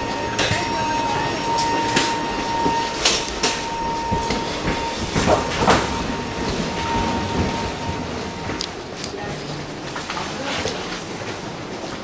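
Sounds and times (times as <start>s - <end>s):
steady high hum: 0.0s - 10.1s
suitcase wheels rolling: 0.0s - 12.0s.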